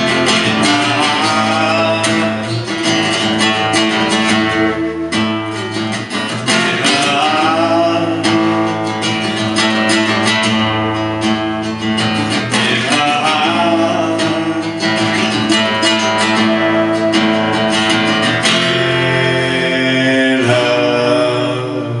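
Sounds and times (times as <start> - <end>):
guitar strummed: 0.0 - 22.0.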